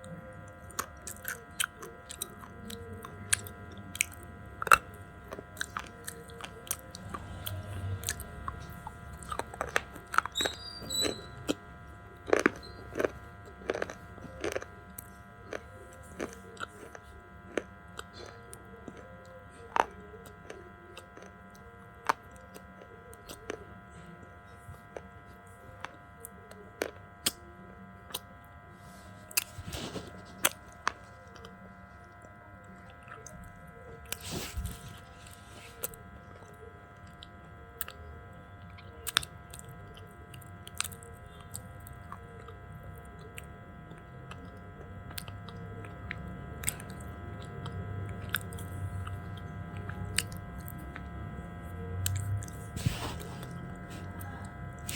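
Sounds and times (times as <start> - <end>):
person chewing and crunching slate: 0.0 - 54.9.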